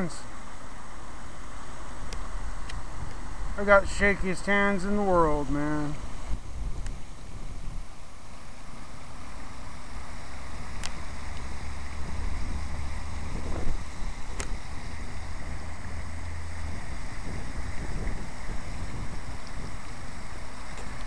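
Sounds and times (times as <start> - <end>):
fountain water splashing: 1.1 - 21.0
wind rumbling on microphone: 2.0 - 21.0.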